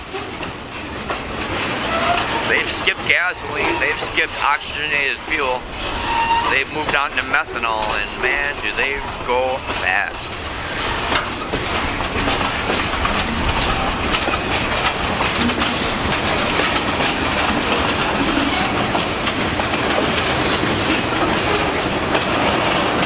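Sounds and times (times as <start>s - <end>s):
clickety-clack over rail joints: 0.0s - 23.0s
train wheels rumbling on rails: 0.0s - 23.0s.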